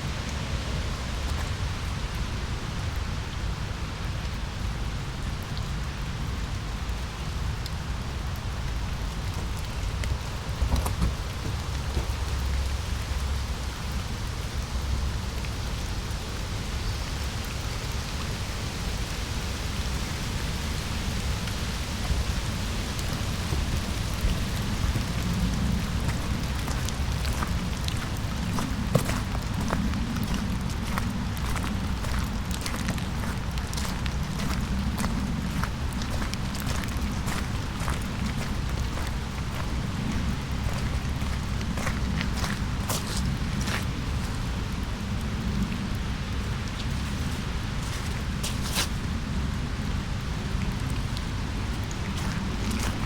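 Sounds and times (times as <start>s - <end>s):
rain hiss: 0.0s - 53.0s.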